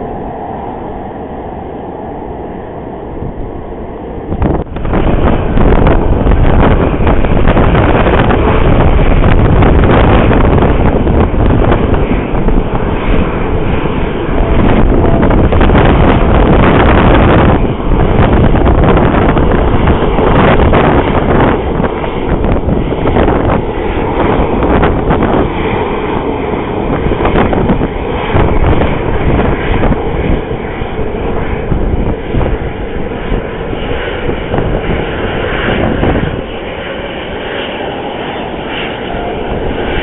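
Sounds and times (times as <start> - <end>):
jet engines roaring: 0.0 - 40.0
wind buffeting microphone: 0.0 - 40.0.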